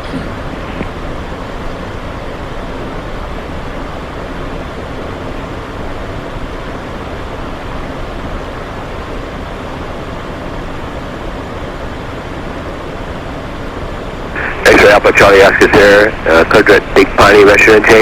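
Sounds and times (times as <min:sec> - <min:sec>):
airflow rushing over airframe: 0:00.0 - 0:18.0
jet engines: 0:00.0 - 0:18.0.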